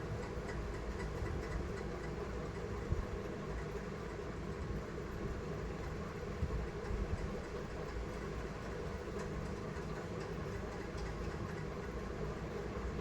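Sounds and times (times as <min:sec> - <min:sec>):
air conditioner blower humming: 0:00.0 - 0:13.0.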